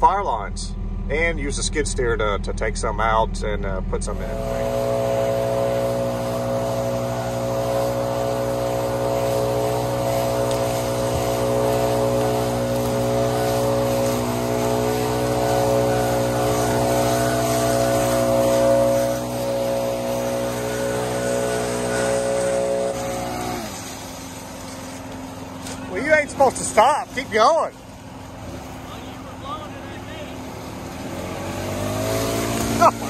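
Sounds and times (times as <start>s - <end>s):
leaf blowers running: 0.0s - 33.0s.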